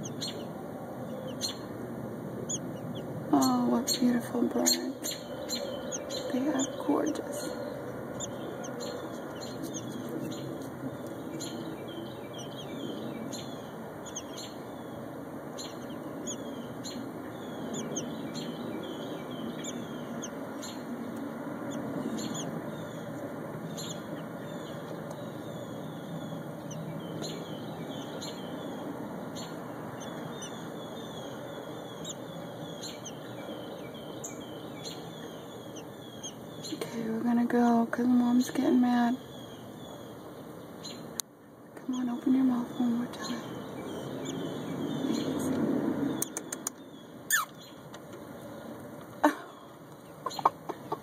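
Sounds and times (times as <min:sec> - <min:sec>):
robin chirping: 0:00.0 - 0:41.2, 0:41.8 - 0:48.6, 0:49.9 - 0:51.0
low background noise: 0:00.0 - 0:51.0.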